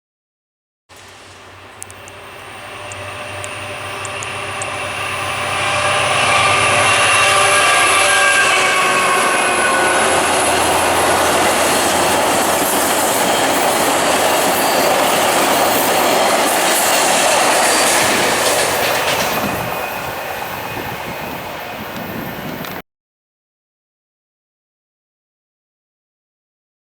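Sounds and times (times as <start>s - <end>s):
train wheels clattering on rails: 0.9s - 22.8s.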